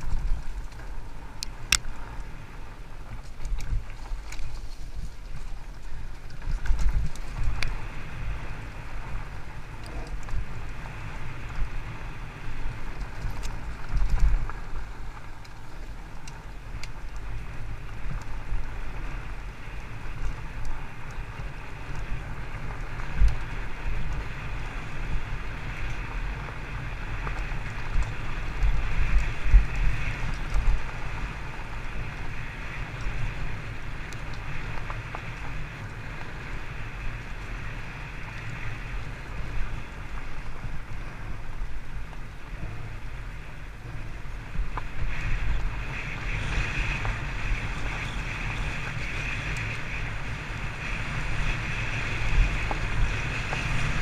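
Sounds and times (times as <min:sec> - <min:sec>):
bike rattling: 0:00.0 - 0:54.0
tyres rolling on dirt: 0:00.0 - 0:54.0
wind on microphone: 0:00.0 - 0:54.0.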